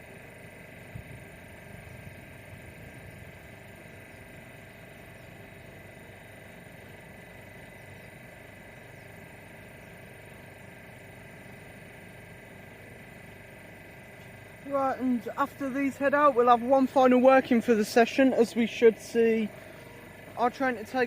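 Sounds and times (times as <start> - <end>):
electric train hum: 0.0 - 21.0.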